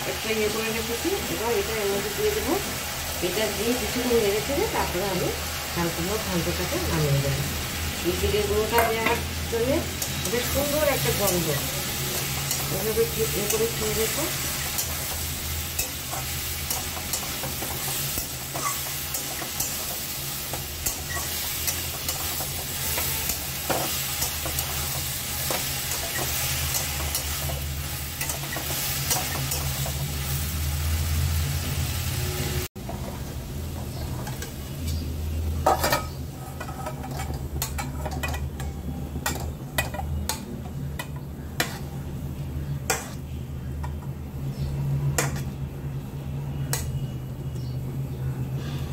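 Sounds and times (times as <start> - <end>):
vegetables sizzling in a pan: 0.0 - 47.8.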